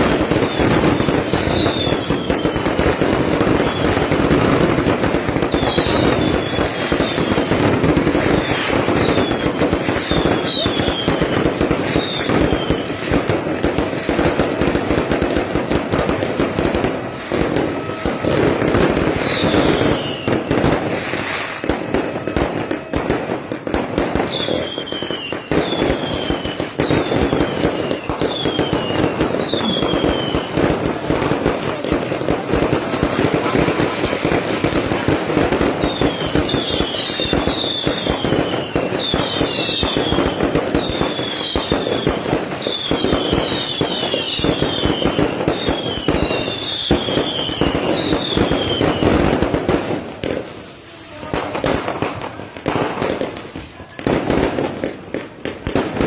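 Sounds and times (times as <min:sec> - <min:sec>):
falling firework whistles: 0:00.0 - 0:50.6
fireworks crackling: 0:00.0 - 0:56.0.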